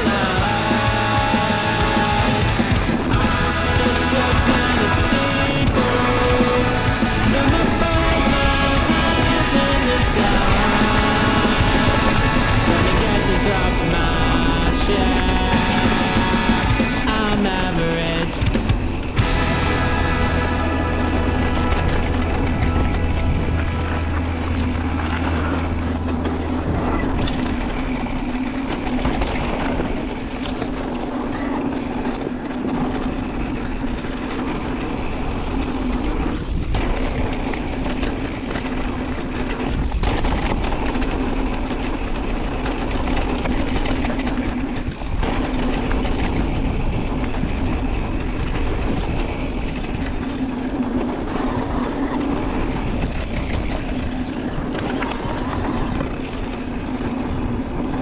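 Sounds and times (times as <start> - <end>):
bike rattling: 0.0 - 58.0
bike tyres rumbling on dirt: 0.0 - 58.0.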